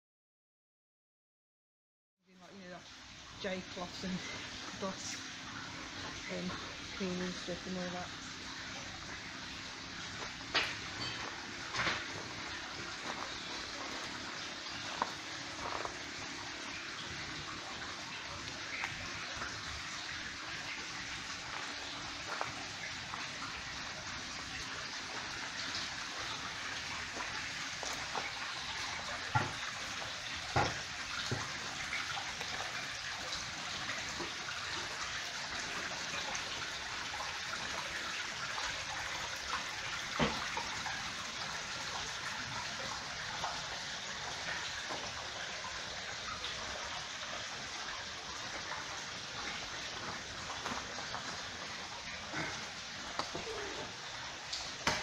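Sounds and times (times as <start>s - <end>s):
running water rushing: 2.4s - 55.0s.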